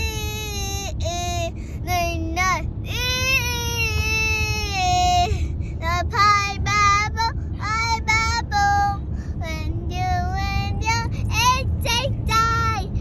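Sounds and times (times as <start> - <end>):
car cabin rumble: 0.0 - 13.0
girl singing: 0.0 - 13.0.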